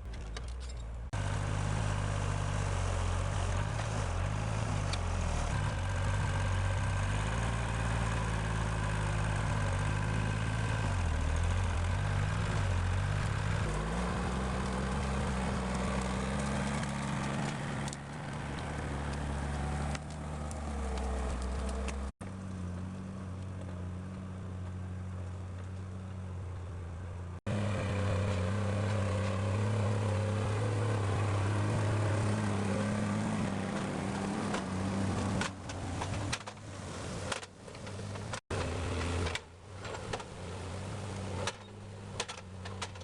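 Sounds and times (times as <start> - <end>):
engine revving under load: 1.1 - 26.5, 27.4 - 43.0.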